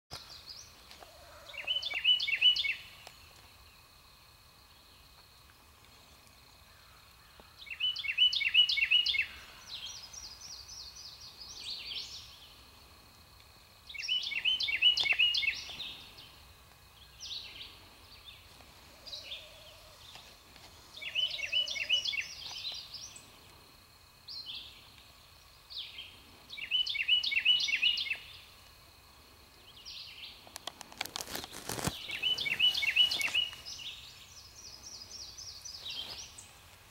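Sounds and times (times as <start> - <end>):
songbird calls: 0.1 - 3.9, 5.9 - 12.7, 13.9 - 23.6, 24.2 - 28.6, 29.6 - 36.9.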